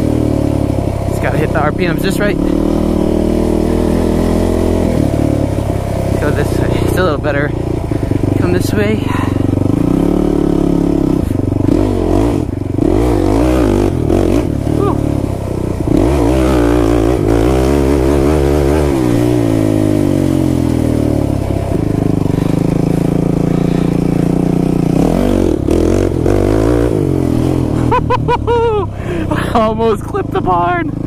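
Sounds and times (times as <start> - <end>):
quad engine revving: 0.0 - 31.0.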